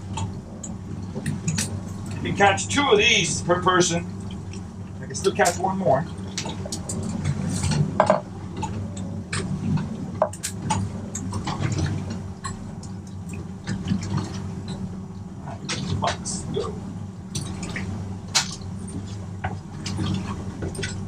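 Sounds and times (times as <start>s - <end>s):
steady low hum: 0.0s - 21.0s
water sloshing: 4.0s - 21.0s.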